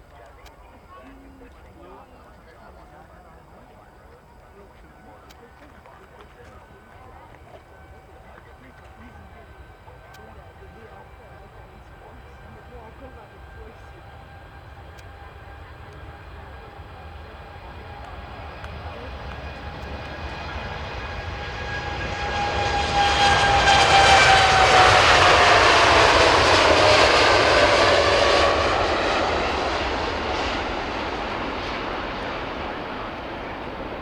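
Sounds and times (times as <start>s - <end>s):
airliner engines passing: 0.0s - 34.0s.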